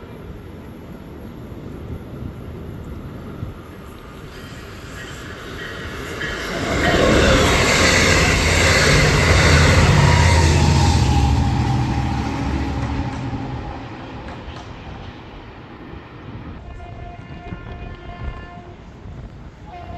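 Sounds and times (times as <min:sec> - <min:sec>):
train passing on rails: 0:00.0 - 0:19.9.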